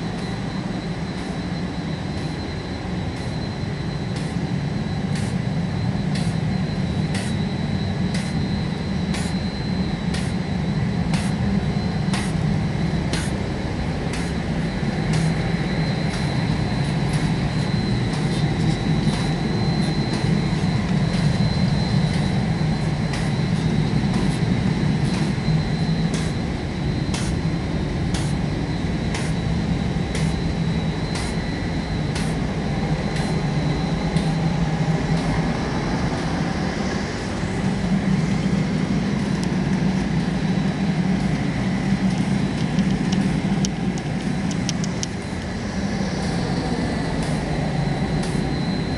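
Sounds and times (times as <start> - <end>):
high whine: 0.0 - 48.9
machine motors humming: 0.0 - 48.9.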